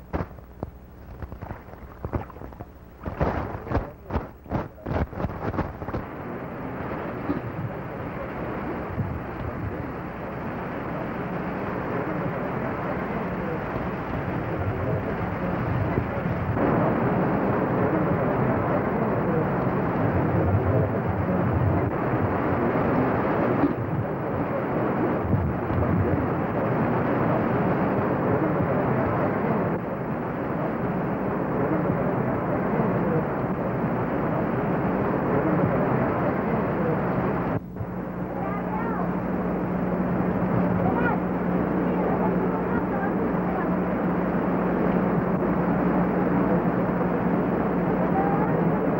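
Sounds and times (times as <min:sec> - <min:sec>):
heavy rain downpour: 0:03.0 - 0:48.9.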